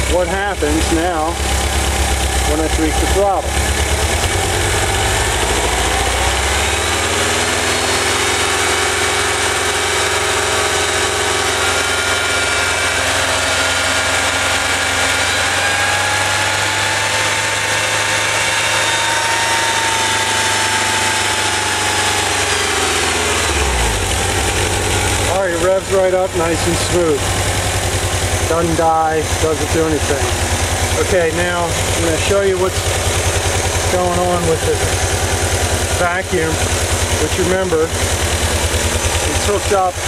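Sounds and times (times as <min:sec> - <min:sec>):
engine idling and revving: 0:00.0 - 0:40.0.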